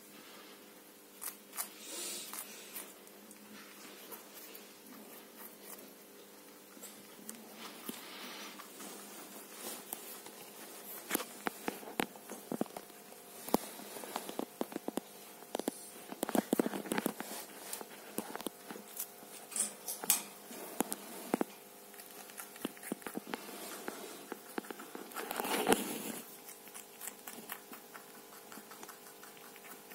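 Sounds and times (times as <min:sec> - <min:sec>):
rabbit chewing from steel bowl: 0:01.2 - 0:29.9.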